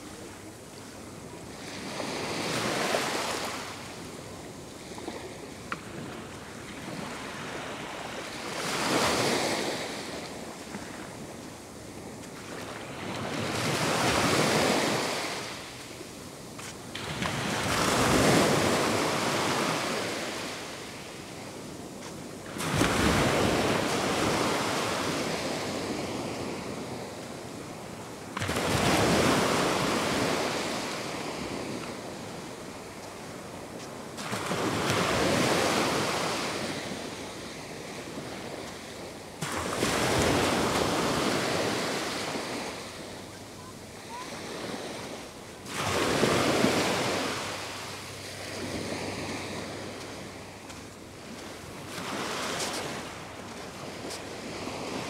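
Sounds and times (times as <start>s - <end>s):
small waves breaking on sand: 0.0s - 55.0s.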